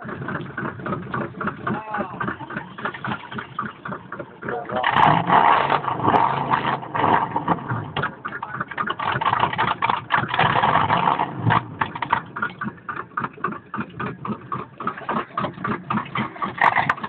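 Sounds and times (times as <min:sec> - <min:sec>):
rapid irregular clicking: 0:00.0 - 0:17.0
truck engine idling: 0:00.0 - 0:17.0.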